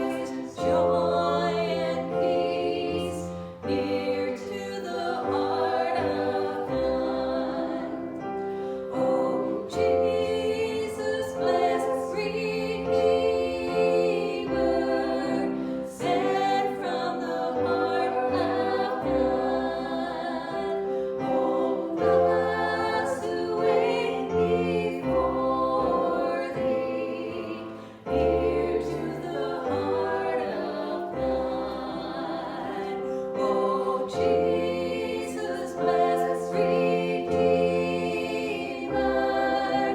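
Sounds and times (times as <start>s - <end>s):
group singing worship song: 0.0s - 39.9s.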